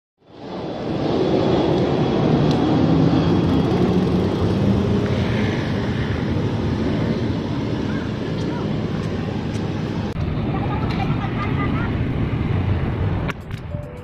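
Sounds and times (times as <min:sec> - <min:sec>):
city traffic engine hum: 0:00.2 - 0:14.0.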